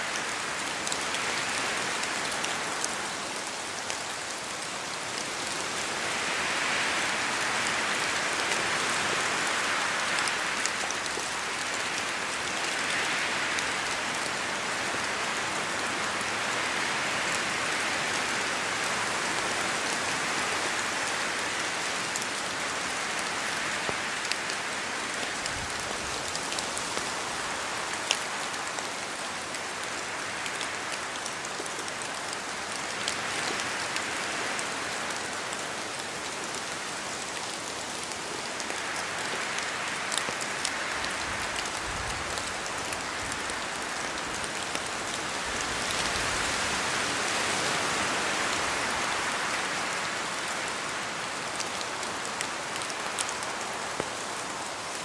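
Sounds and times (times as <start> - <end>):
steady rain in forest: 0.0 - 55.0
wind through trees: 0.0 - 55.0.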